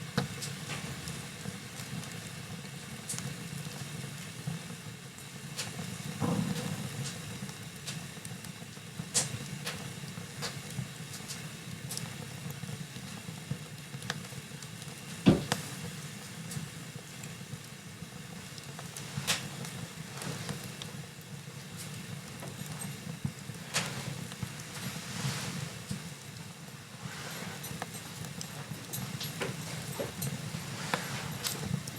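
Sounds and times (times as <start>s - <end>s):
fire crackles and pops: 0.0s - 31.9s
low rumble of flames: 0.0s - 31.9s.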